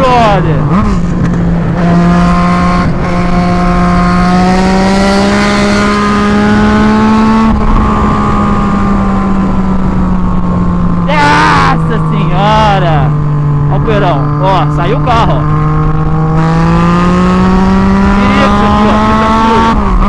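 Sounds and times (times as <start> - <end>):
loud motorcycle engine: 0.0 - 20.0.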